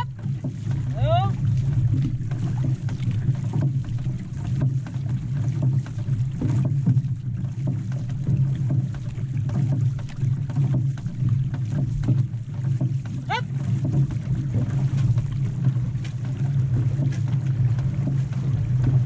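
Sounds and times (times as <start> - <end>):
paddle strokes: 0.0 - 19.0
steady low rumble: 0.0 - 19.0
water rushing and splashing: 0.0 - 19.0.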